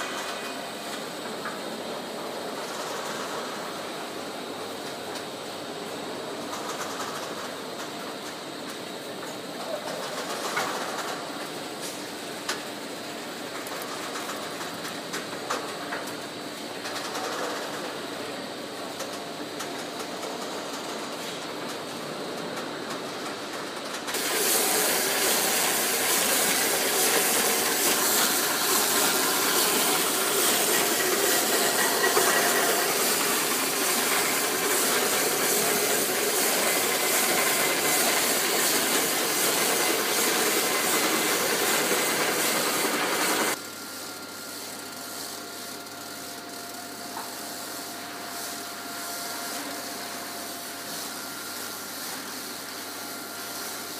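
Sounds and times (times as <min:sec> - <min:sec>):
loud steady hiss: 0:00.0 - 0:53.9
machine noise: 0:00.0 - 0:53.9.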